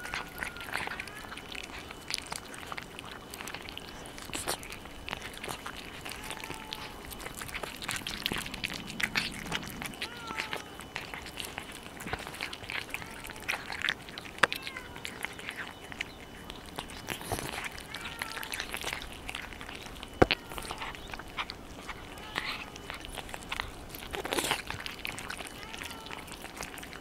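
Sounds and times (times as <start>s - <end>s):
cats chewing and licking: 0.0s - 27.0s.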